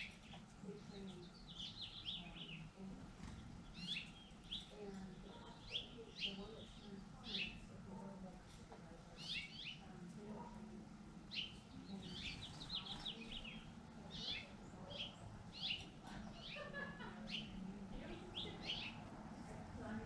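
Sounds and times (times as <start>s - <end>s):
small songbirds chirping: 0.0s - 8.5s, 9.1s - 19.1s.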